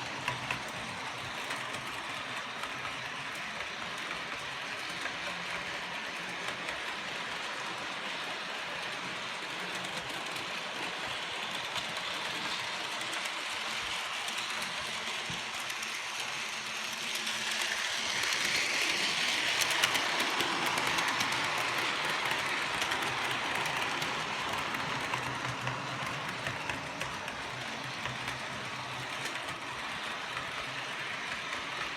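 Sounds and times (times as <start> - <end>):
model train wheels whirring on rails: 0.0 - 31.9.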